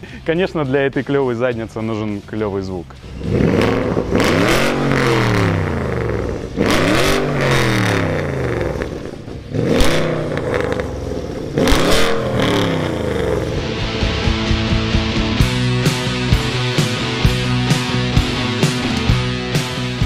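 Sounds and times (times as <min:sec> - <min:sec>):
car engine revving: 0:02.9 - 0:20.0.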